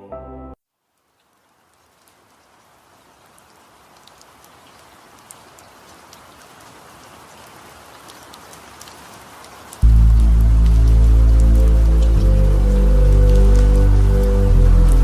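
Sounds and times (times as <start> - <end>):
steady rain falling: 0.6 - 15.0
rain drop ticks: 0.8 - 15.0.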